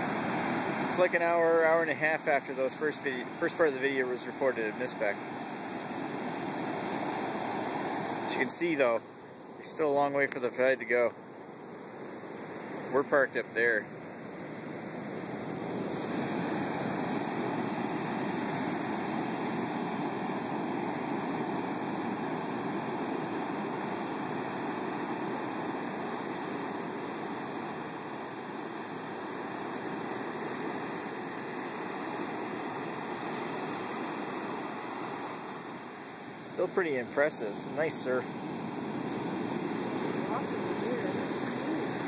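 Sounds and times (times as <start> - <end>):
surf breaking on beach: 0.0 - 8.9, 14.5 - 42.0.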